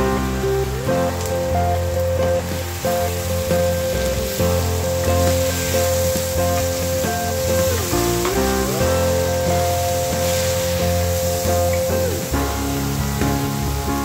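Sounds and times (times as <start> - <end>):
background music: 0.0 - 14.0
food sizzling in a pan: 0.0 - 14.0.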